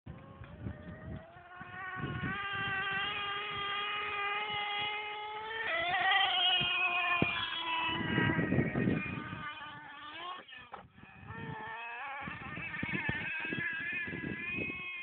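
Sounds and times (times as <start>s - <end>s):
rc truck engine whining at high revs: 0.1s - 15.0s.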